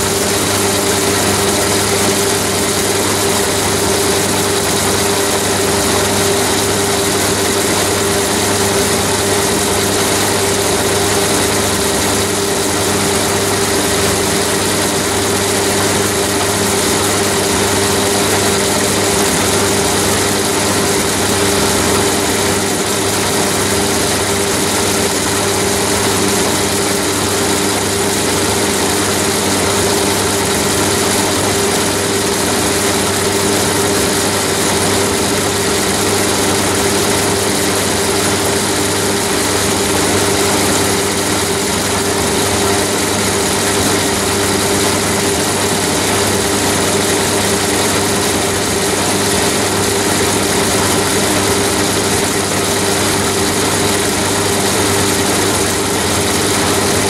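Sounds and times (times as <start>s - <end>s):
lathe motor humming: 0.0s - 57.0s.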